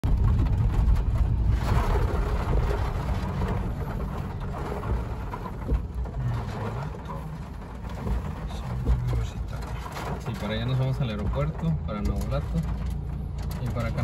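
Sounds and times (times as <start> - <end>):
car engine low rumble: 0.0 - 14.0
rain falling on a car: 0.0 - 14.0
windshield wiper sweeping: 0.0 - 14.0.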